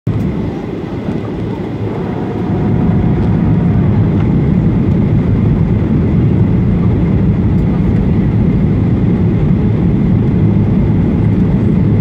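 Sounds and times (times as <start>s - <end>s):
airplane cabin engine rumble: 0.1s - 12.0s.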